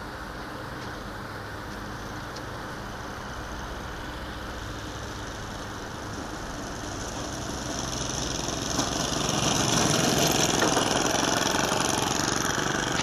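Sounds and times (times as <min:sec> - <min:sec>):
model aeroplane engine: 0:00.0 - 0:13.0.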